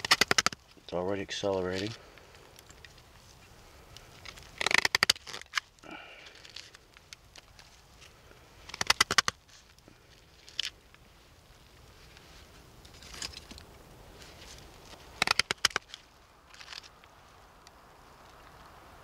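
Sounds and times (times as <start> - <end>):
small fire crackling and popping: 0.0 - 19.0.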